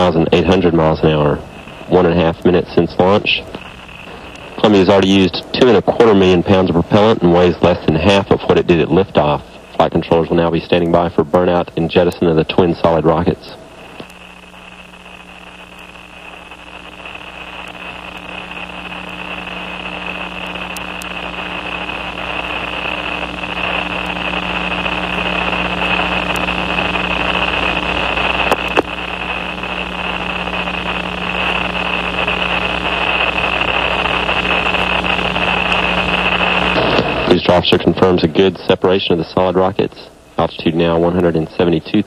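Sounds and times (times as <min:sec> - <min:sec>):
low hum: 0:00.0 - 0:41.6
steady hiss: 0:00.0 - 0:42.0.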